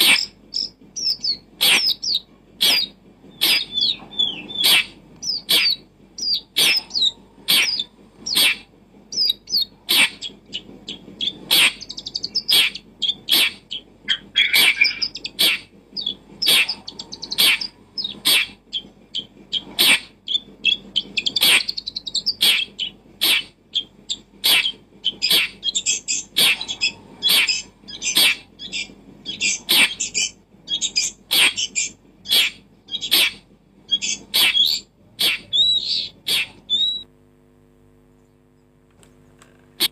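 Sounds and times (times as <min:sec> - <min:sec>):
bird chirping and warbling: 0:00.0 - 0:37.1.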